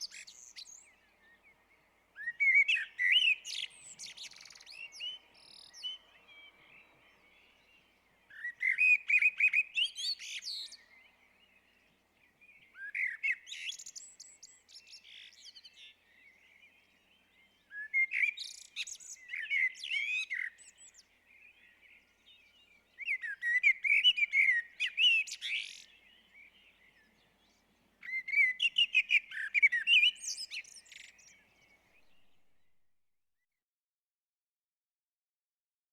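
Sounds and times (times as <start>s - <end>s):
blackbird singing: 0.0s - 32.6s.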